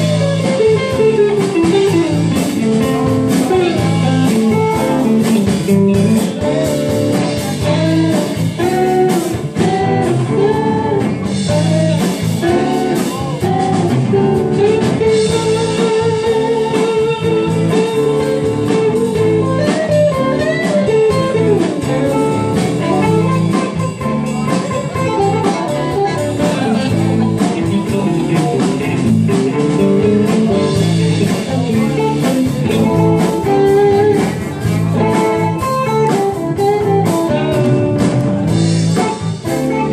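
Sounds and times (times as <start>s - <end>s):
blues rock band playing: 0.0s - 39.9s.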